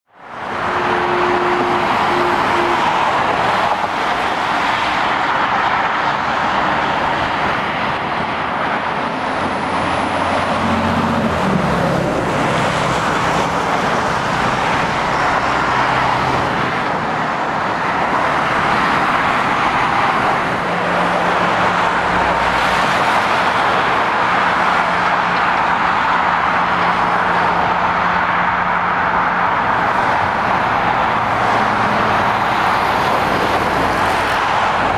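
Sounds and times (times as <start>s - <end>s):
traffic tyre noise: 0.0s - 34.9s
lorry engine hum: 0.1s - 34.9s.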